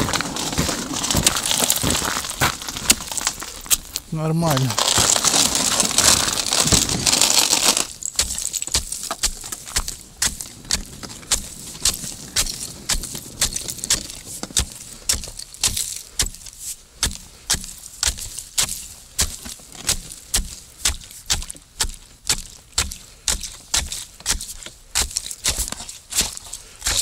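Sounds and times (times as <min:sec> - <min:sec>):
ice chisel chopping ice: 0:04.8 - 0:27.0.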